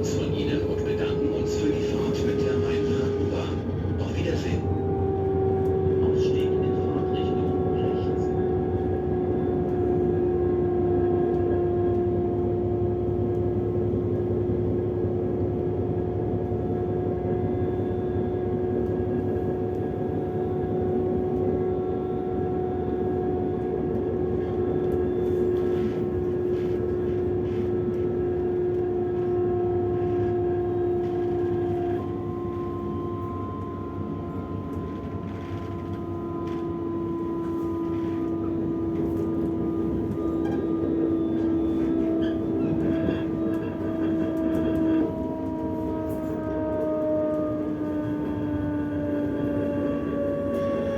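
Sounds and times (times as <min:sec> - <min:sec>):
train rolling on rails: 0:00.0 - 0:21.6, 0:22.4 - 0:50.9.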